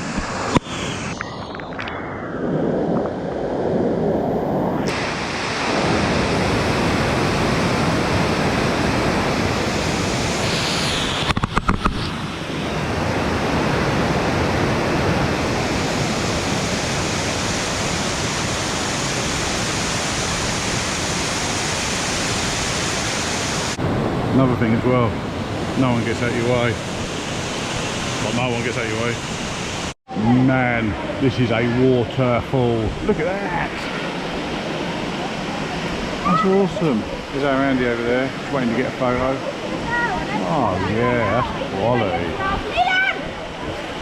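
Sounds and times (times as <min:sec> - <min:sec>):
waterfall rushing: 0:04.8 - 0:30.0, 0:33.2 - 0:44.0.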